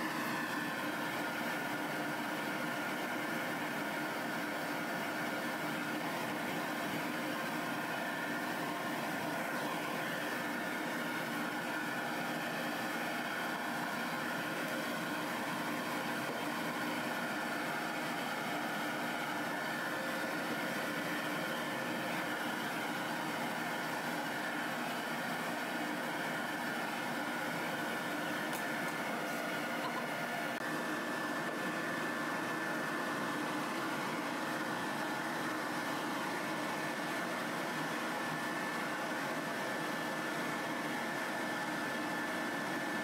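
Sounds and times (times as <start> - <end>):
pet grooming dryer running: 0.0 - 43.0.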